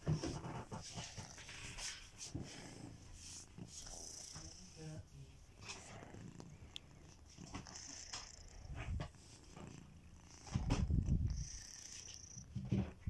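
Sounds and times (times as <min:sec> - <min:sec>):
cat snoring: 0:00.1 - 0:13.0.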